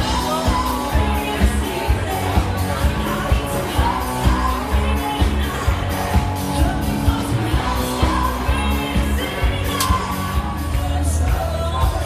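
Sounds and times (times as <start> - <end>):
bass guitar: 0.0 - 12.0
electric guitars: 0.0 - 12.0
person singing lead vocal: 0.0 - 12.0.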